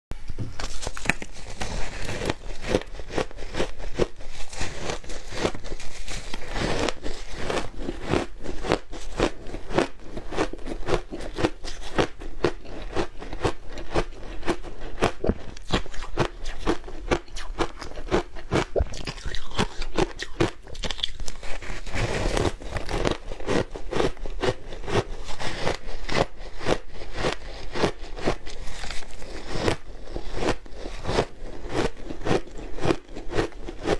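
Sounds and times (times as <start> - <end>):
person crunching ice: 0.6 - 33.9.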